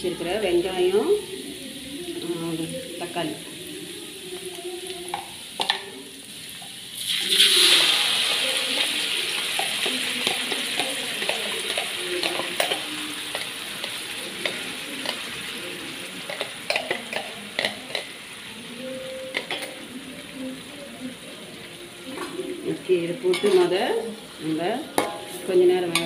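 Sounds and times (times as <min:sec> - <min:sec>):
paste sizzling in hot oil: 0:00.0 - 0:26.0.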